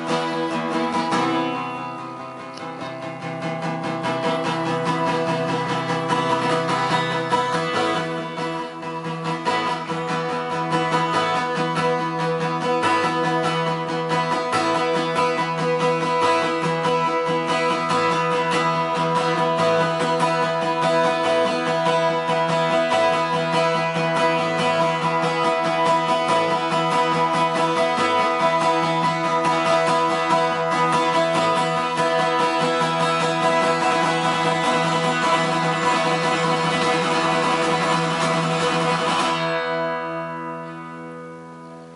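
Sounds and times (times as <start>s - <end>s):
acoustic guitar plucked notes: 0.0s - 41.9s.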